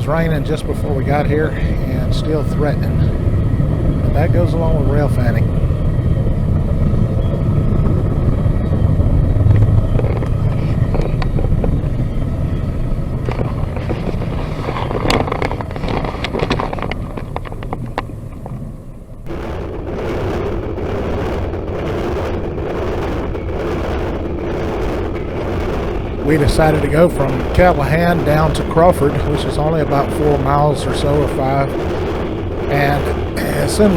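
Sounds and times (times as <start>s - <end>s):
freight train cars rumbling: 0.0s - 33.9s.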